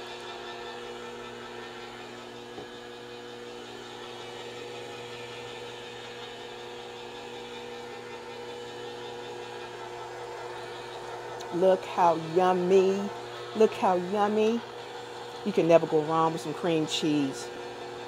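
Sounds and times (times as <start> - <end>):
stand mixer motor whirring: 0.0 - 18.0.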